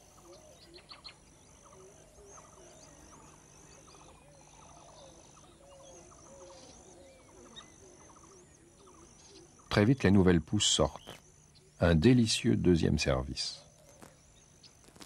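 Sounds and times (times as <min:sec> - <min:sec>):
bird chorus: 0:00.0 - 0:15.0.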